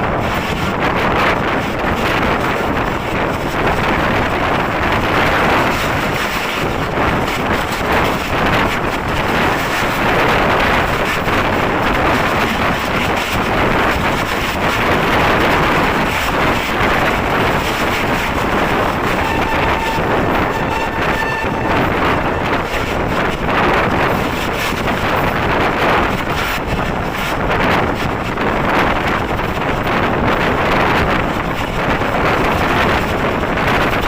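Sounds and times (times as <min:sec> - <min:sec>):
train passing at speed: 0:00.0 - 0:34.0
wind buffeting microphone: 0:00.0 - 0:34.0.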